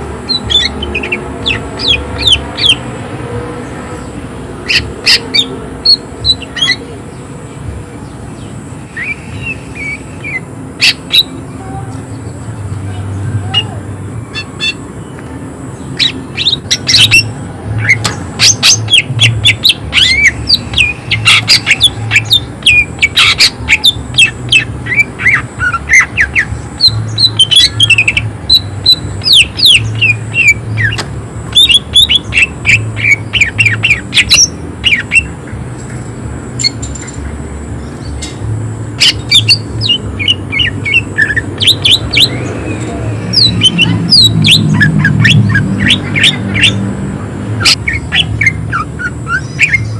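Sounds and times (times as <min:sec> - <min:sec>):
bird singing harsh calls and whistles: 0:00.0 - 0:07.3, 0:08.0 - 0:35.9, 0:36.5 - 0:37.2, 0:38.9 - 0:49.9.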